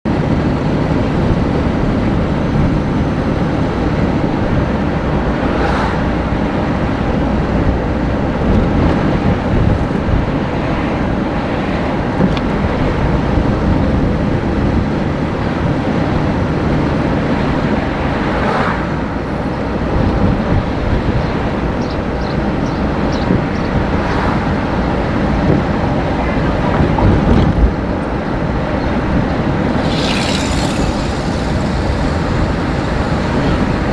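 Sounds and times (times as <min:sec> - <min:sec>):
vehicle rumble: 0:00.1 - 0:33.9.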